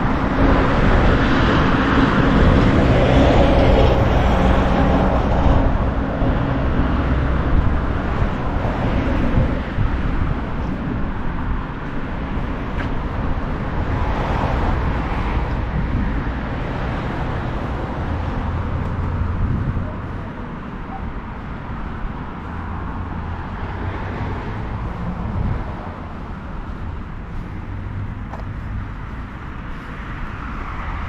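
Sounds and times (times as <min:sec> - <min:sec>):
road traffic noise: 0:00.0 - 0:31.0
vehicle engine low hum: 0:00.0 - 0:31.0.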